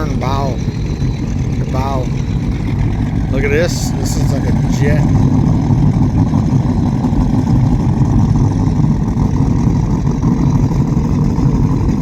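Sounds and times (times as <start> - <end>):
powerboat engines idling: 0.0 - 12.0.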